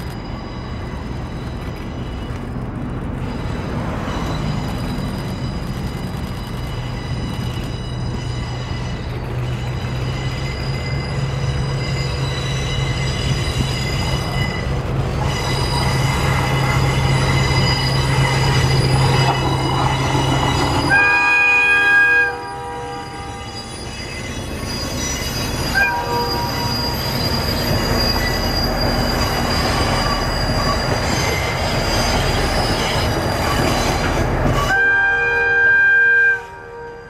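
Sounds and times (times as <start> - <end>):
locomotive engine drone: 0.0 - 37.0
train wheel noise: 0.0 - 37.0.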